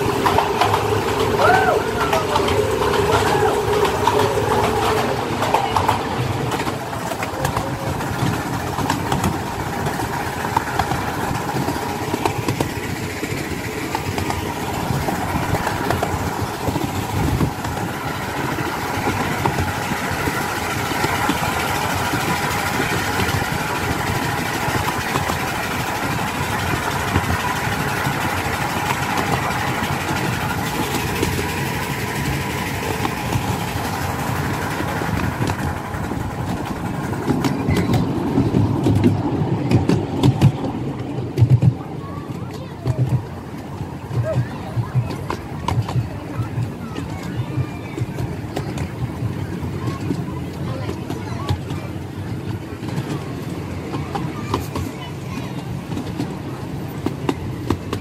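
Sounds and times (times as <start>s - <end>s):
train clicks and knocks: 0.0s - 58.0s
train wheels rolling on rails: 0.0s - 58.0s.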